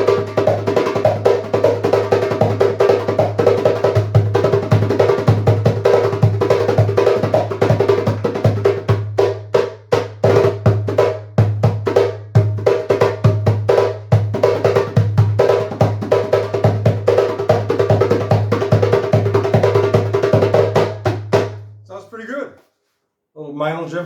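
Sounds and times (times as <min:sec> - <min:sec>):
djembe played by hand: 0:00.0 - 0:21.8.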